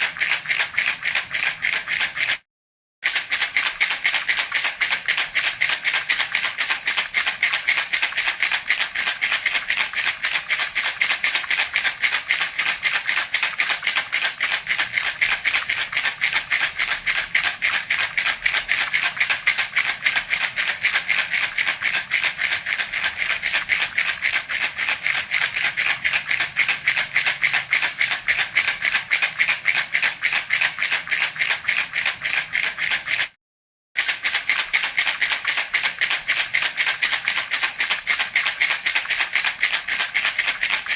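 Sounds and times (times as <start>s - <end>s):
baby rattle shaken: 0.0s - 2.4s, 3.0s - 33.4s, 34.0s - 40.9s.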